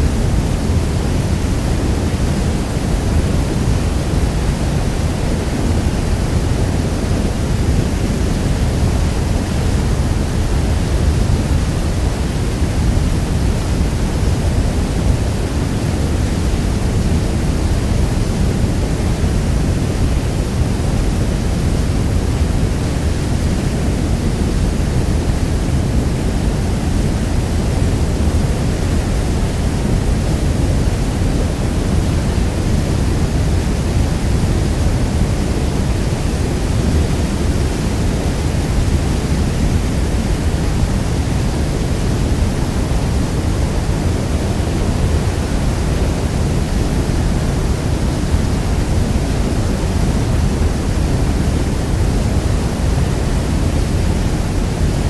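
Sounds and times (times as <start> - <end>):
waterfall rumbling: 0.0 - 55.0.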